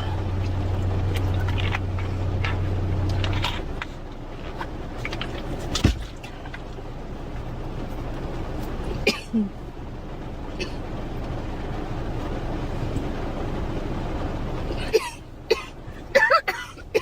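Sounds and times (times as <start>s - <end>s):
steady background rumble: 0.0s - 17.0s.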